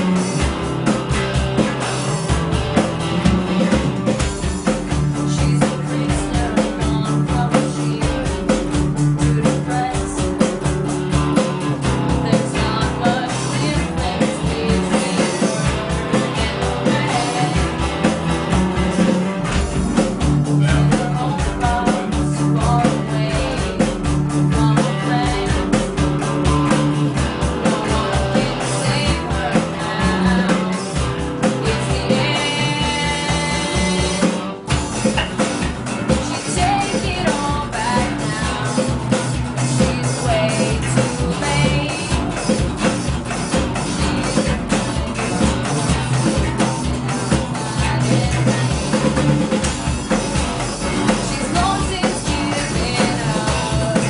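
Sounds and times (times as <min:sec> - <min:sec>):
drum kit beat: 0:00.0 - 0:54.0
electric bass line: 0:00.0 - 0:54.0
electric guitars: 0:00.0 - 0:54.0.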